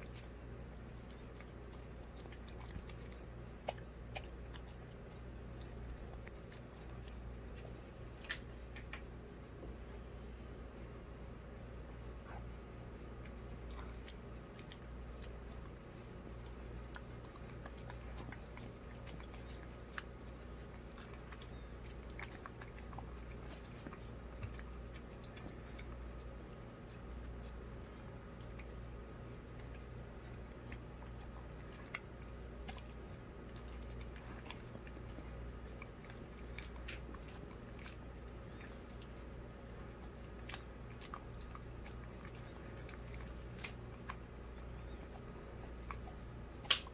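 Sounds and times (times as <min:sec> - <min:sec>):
dog licking and chewing wet food: 0:00.0 - 0:09.0, 0:12.0 - 0:46.9
low steady hum: 0:00.0 - 0:46.9.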